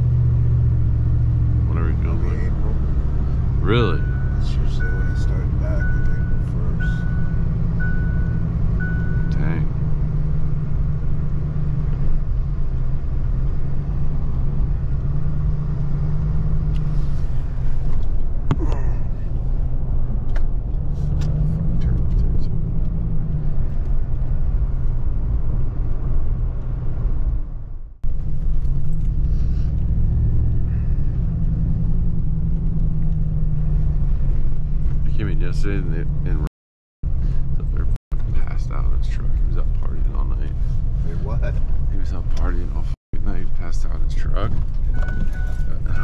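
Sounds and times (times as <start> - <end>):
truck engine and road noise: 0.0 - 46.0.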